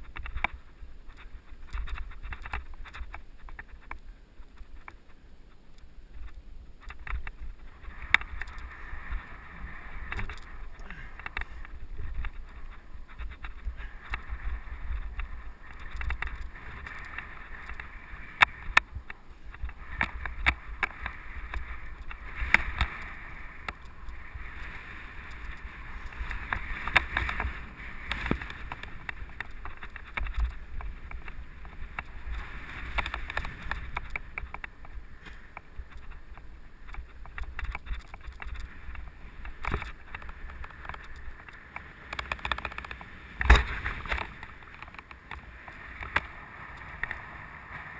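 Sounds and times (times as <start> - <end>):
bike tyres rolling on dirt: 0.0 - 47.9
wind rumble on microphone: 0.0 - 47.9
bike rattling over bumps: 6.1 - 47.3.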